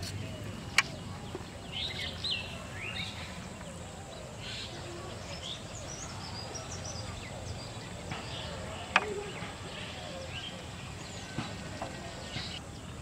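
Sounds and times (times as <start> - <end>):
birds chirping: 0.0 - 13.0
low outdoor background noise: 0.0 - 13.0.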